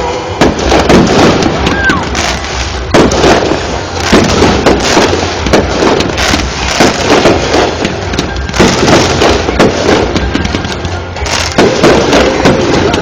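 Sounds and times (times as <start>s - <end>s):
fireworks bangs and booms: 0.0s - 13.0s
fireworks crackling: 0.0s - 13.0s.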